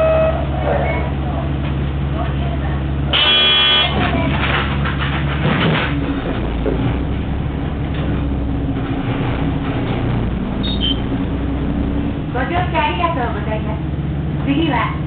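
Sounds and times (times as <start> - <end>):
bus diesel engine from inside: 0.0 - 15.0.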